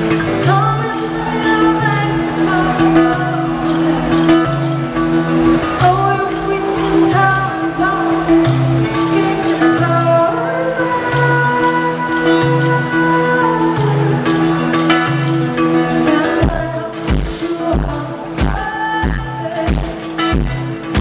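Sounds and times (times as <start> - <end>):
woman singing: 0.0 - 4.8, 5.6 - 21.0
guitar: 0.0 - 21.0
live band music: 0.0 - 21.0.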